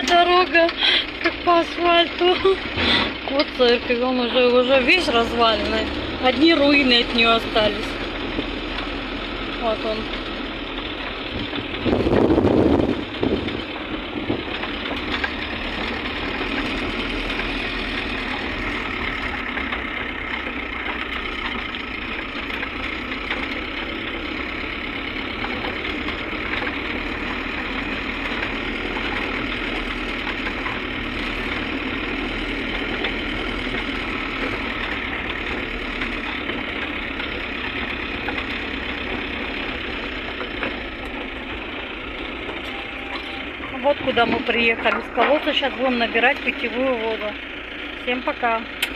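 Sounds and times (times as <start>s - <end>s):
car engine and tyres rumbling: 0.0s - 48.9s.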